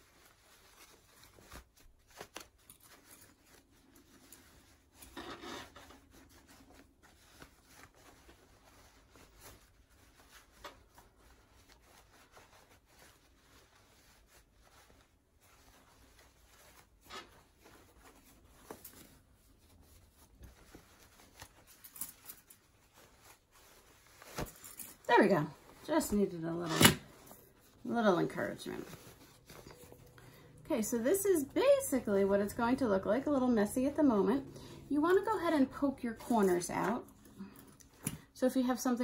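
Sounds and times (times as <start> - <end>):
fabric rustling and rubbing: 0.0 - 39.0.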